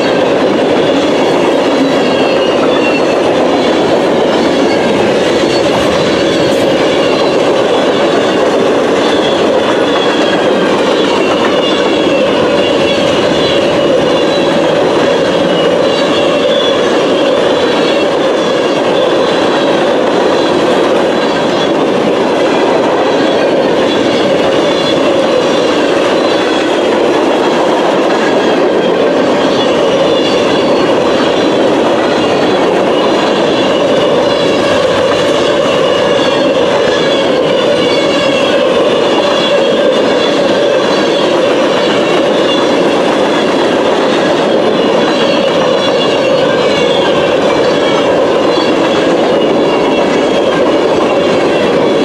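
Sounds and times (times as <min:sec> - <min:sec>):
high-pitched wheel squeal: 0:00.0 - 0:19.7, 0:28.4 - 0:52.0
train wheels rumbling and clacking: 0:00.0 - 0:52.0.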